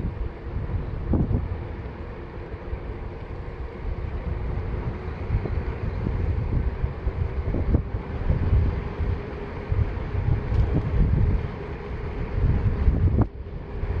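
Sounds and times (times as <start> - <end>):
tyres rolling on asphalt: 0.0 - 14.0
wind buffeting microphone: 0.0 - 14.0.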